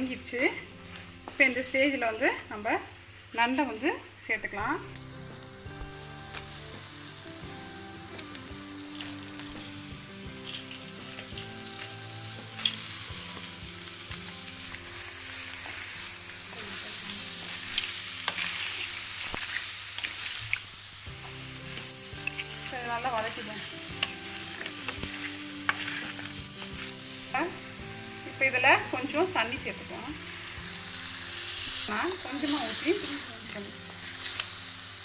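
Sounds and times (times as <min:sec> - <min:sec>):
crab frying and sizzling: 0:00.0 - 0:35.0.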